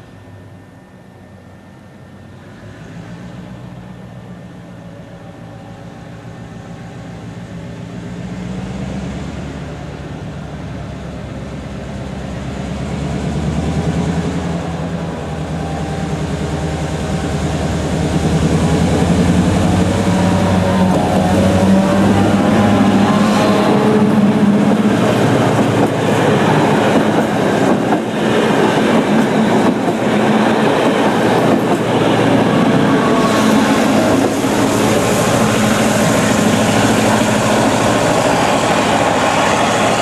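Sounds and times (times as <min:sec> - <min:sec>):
diesel locomotive engine drone: 0:00.0 - 0:40.0.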